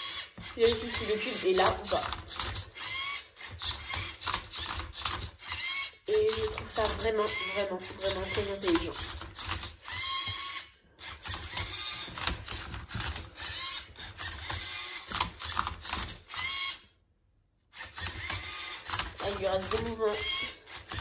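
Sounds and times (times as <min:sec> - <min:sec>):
robot motors whirring: 0:00.0 - 0:16.8, 0:17.8 - 0:21.0.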